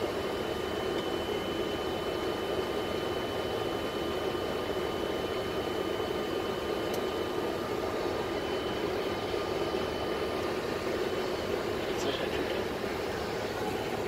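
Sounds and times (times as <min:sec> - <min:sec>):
engine and ventilation hum: 0:00.0 - 0:14.0
faint high whines: 0:00.1 - 0:14.0.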